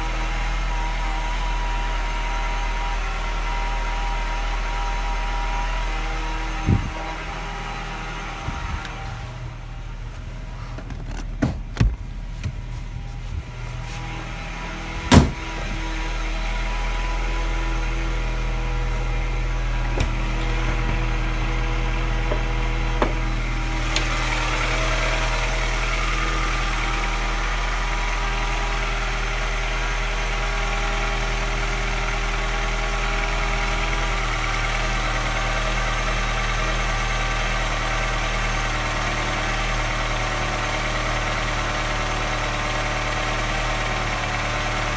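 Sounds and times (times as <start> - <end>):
car engine idling with tapping: 0.0 - 44.9.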